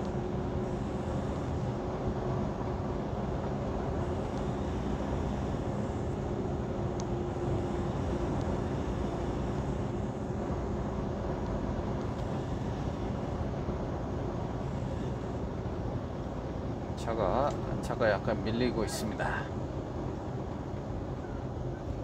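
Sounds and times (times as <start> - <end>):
faint steady hum: 0.0 - 22.0
truck engine and tyres droning: 0.0 - 22.0.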